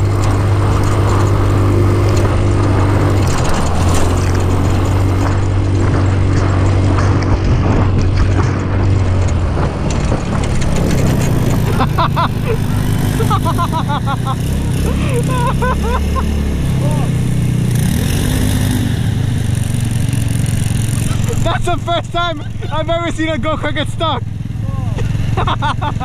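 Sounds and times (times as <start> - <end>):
go-kart engine running: 0.0 - 26.0.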